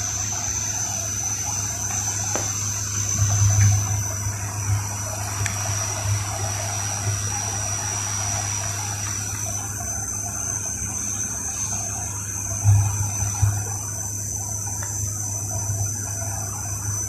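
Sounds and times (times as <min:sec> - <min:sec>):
airliner cabin air and engine noise: 0:00.0 - 0:17.0
low hum: 0:00.0 - 0:17.0.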